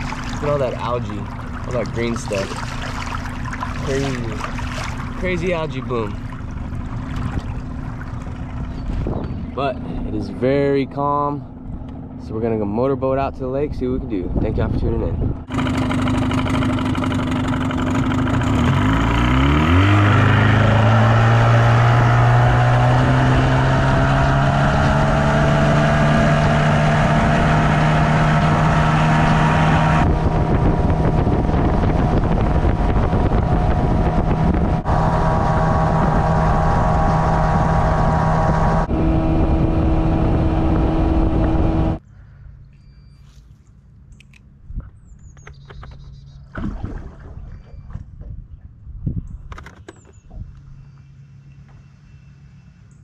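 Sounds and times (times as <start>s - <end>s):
outboard motor running: 0.0s - 13.2s, 14.3s - 44.3s.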